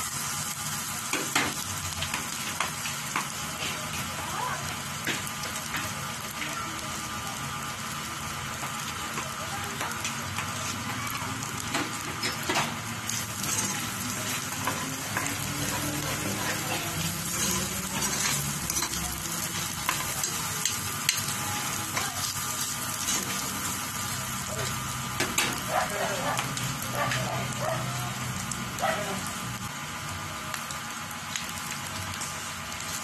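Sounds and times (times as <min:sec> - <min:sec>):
meat sizzling in a skillet: 0:00.0 - 0:33.0.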